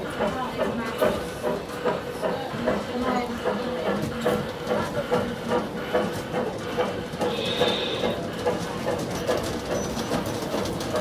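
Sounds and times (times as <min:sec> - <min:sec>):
model train clatter: 0:00.0 - 0:11.0
model train hum: 0:00.0 - 0:11.0.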